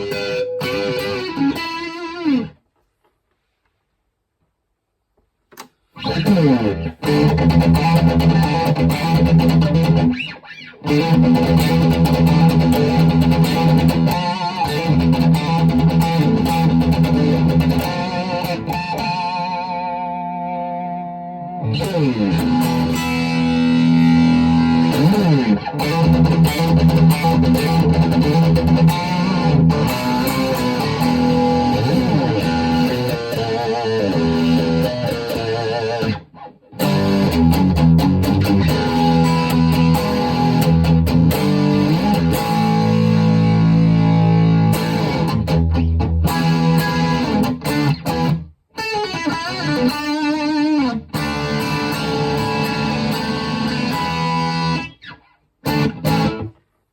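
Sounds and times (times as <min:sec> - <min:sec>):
electric guitar with bent notes: 0:00.0 - 0:02.6, 0:05.6 - 0:56.7.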